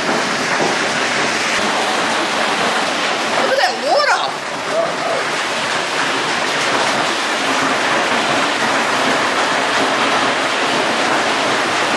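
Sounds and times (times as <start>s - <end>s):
hail and heavy rain pelting: 0.0s - 11.9s.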